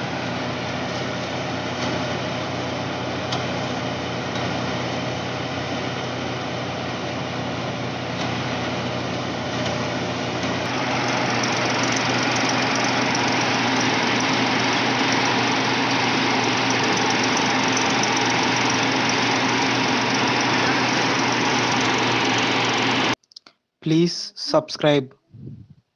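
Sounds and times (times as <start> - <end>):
blower fan hissing: 0.0 - 23.2
thresher mechanical noise: 0.0 - 23.2
tractor engine hum: 0.0 - 23.2.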